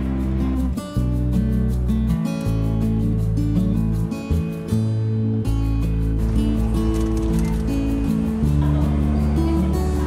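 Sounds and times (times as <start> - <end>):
acoustic guitar music: 0.0 - 10.0
low bass notes: 0.0 - 10.0.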